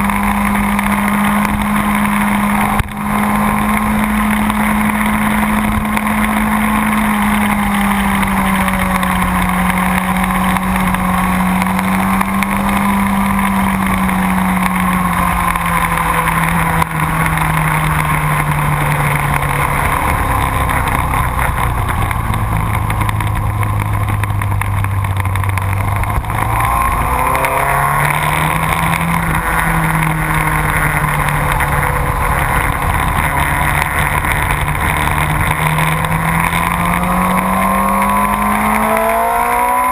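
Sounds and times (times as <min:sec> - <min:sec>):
noisy wind rush: 0:00.0 - 0:39.9
sport motorcycle engine at speed: 0:00.0 - 0:39.9.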